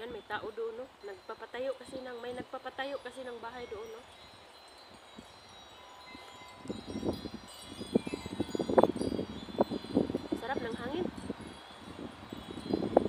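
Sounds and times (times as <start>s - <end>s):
wind chime tinkling: 0.0s - 13.0s.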